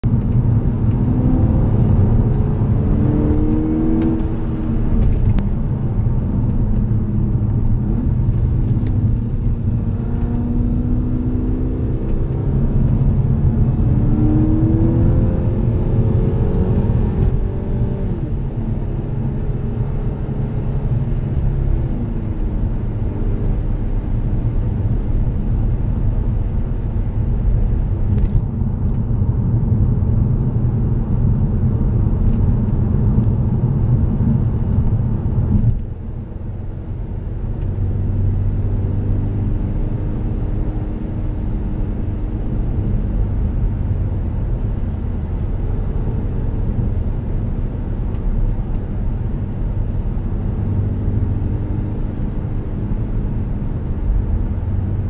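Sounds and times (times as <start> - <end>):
car engine revving: 0.0 - 55.0
road and tyre rumble: 0.0 - 55.0.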